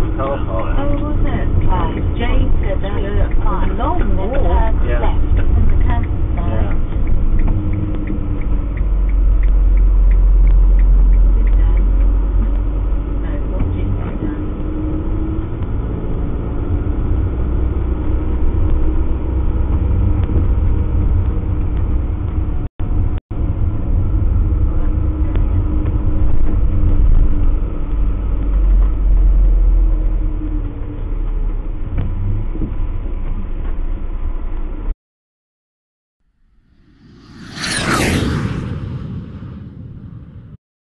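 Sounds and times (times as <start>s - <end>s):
engine and road rumble: 0.0s - 35.0s, 36.3s - 40.6s.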